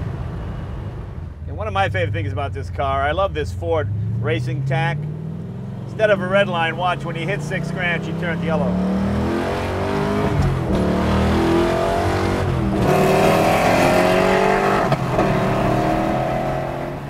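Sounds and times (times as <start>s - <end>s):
car engine revving: 1.6s - 17.0s.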